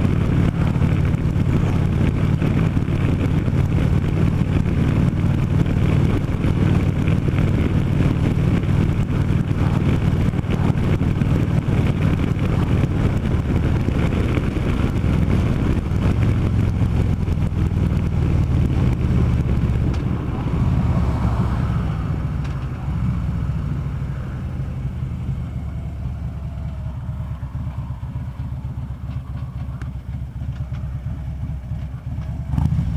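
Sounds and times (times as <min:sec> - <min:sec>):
motorcycle engine running: 0:00.0 - 0:32.9
wind noise on microphone: 0:00.0 - 0:32.9.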